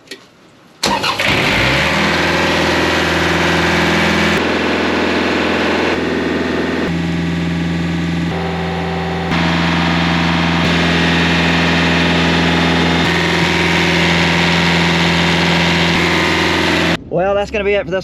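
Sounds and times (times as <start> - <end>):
engine running steadily: 0.8 - 17.0.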